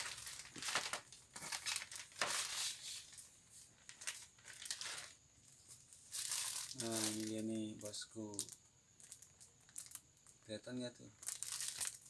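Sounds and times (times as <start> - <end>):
plastic packaging crinkling: 0.0 - 10.4, 11.1 - 12.0.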